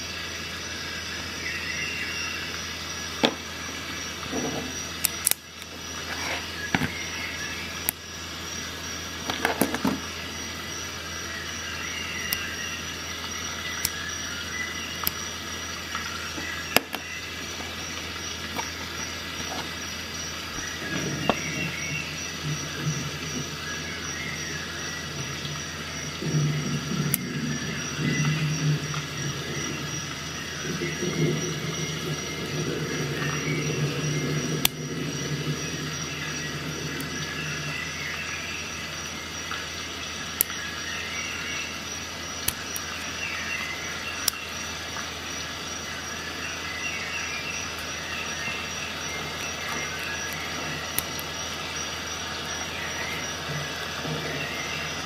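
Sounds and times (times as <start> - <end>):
background hiss and hum: 0.0 - 55.0.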